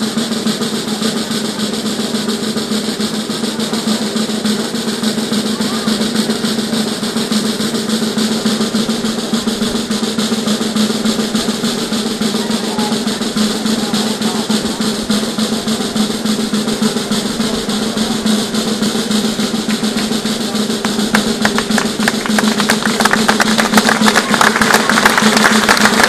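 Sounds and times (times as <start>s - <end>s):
snare drum roll: 0.0s - 26.0s.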